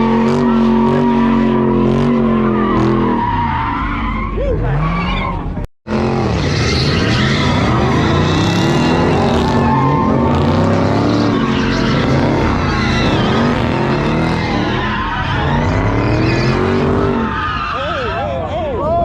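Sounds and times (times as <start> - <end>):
engines revving hard: 0.0 - 18.3.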